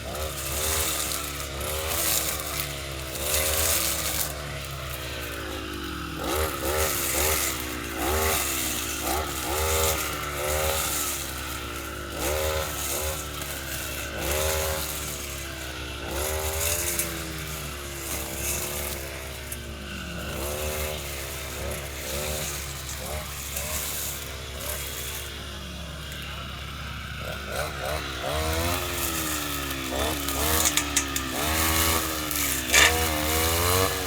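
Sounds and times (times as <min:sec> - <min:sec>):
lawnmower engine running: 0:00.0 - 0:34.0.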